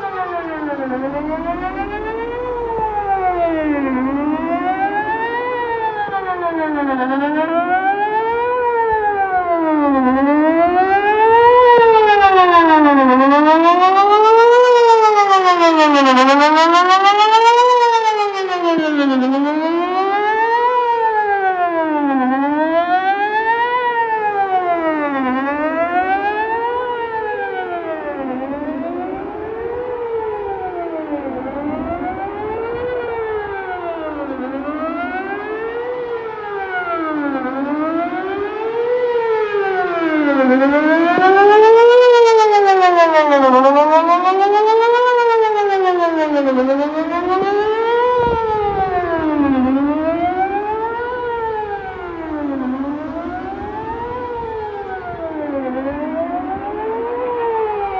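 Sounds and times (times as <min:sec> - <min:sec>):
warning siren wailing: 0:00.0 - 0:57.9.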